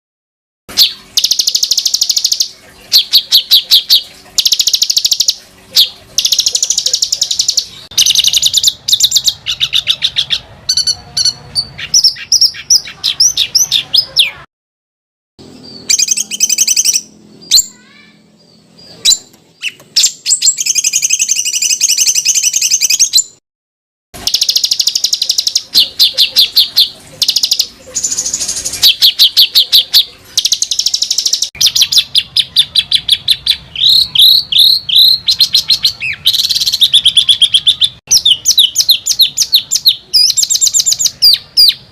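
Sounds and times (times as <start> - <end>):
harsh rattling bird calls: 0.7 - 14.5, 15.4 - 23.4, 24.2 - 41.9.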